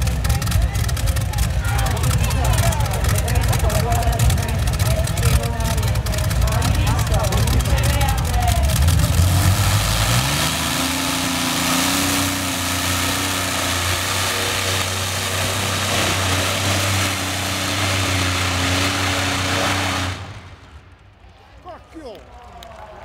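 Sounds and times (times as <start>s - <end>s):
tractor engine revving hard: 0.0s - 20.8s.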